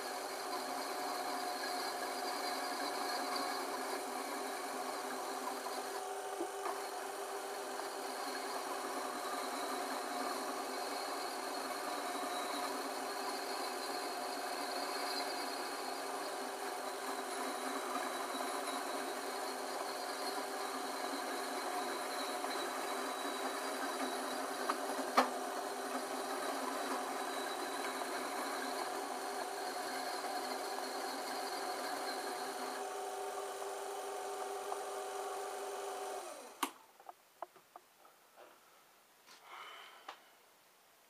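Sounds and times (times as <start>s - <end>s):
file grinding spinning pipe: 0.0s - 36.4s
lathe motor whine: 0.0s - 36.8s.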